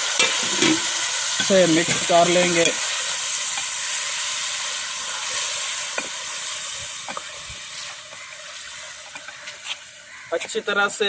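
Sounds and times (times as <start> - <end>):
food sizzling in hot fat: 0.0 - 11.0.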